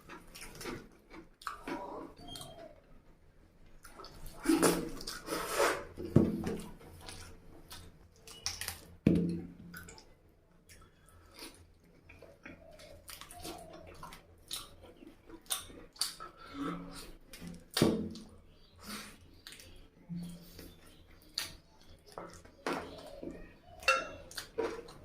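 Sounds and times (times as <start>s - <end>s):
close chewing and biting food: 0.0s - 2.8s, 3.7s - 9.0s, 9.7s - 25.0s.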